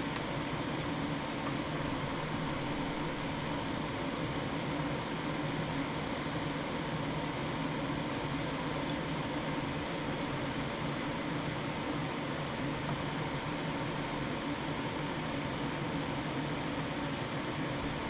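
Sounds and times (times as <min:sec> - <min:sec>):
fan hum and hiss: 0:00.0 - 0:18.0.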